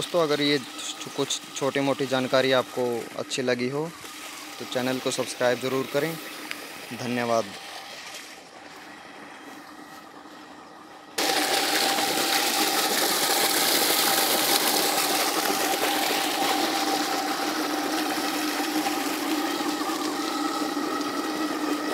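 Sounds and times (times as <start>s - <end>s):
pump humming: 0.0s - 21.9s.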